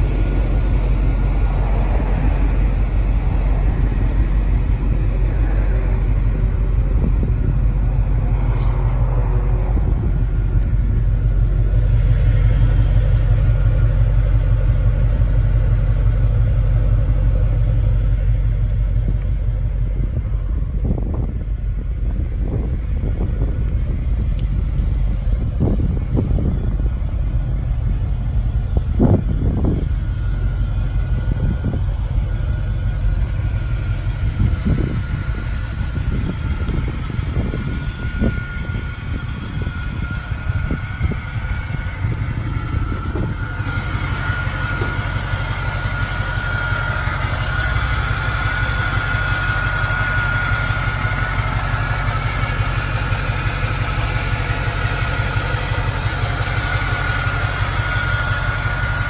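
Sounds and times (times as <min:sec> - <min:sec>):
car engine idling: 0:00.0 - 0:59.0
high whine from engine bay: 0:00.0 - 0:59.0.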